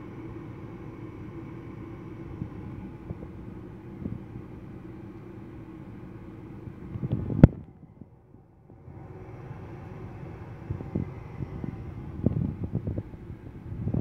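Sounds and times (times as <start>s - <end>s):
furnace motor humming: 0.0s - 14.0s.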